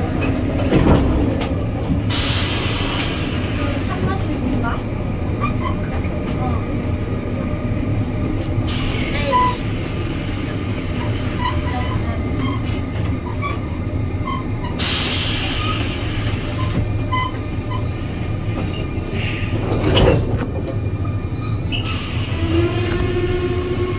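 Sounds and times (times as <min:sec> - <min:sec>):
train running gear rumble: 0:00.0 - 0:23.9.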